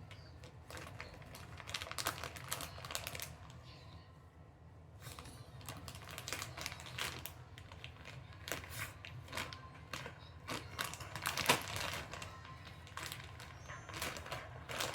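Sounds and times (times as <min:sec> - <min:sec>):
plastic bag crinkling: 0:00.0 - 0:03.6, 0:05.1 - 0:14.9.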